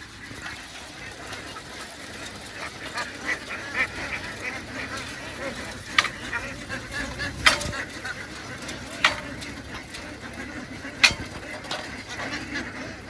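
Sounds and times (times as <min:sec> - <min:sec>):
ducks quacking: 0:00.1 - 0:13.0.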